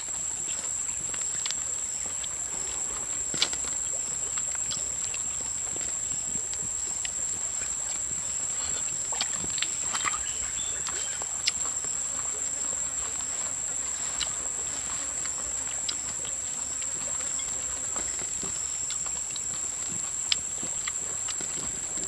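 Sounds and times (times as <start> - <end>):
forest insects droning: 0.0 - 22.0.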